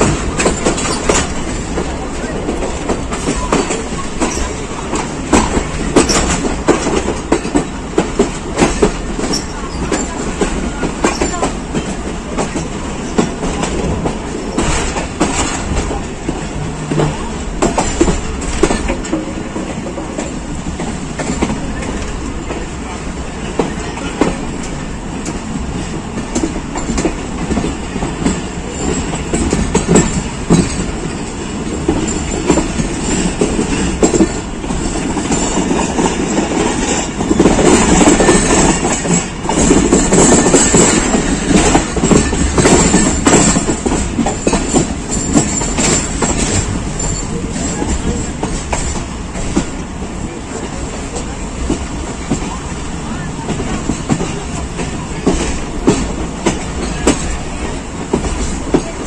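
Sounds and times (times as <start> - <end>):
train wheel and rail rumble: 0.0 - 59.0
wheels clicking over rail joints: 0.0 - 59.0.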